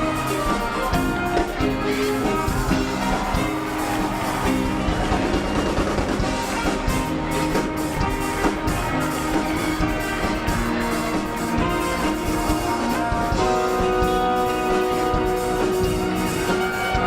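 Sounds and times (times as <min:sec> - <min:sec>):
live circus band music: 0:00.0 - 0:17.0.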